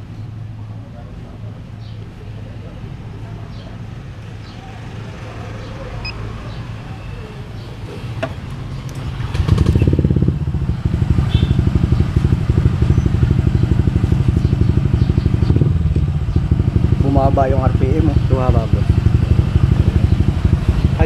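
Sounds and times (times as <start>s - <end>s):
scooter engine idling: 1.4s - 21.0s.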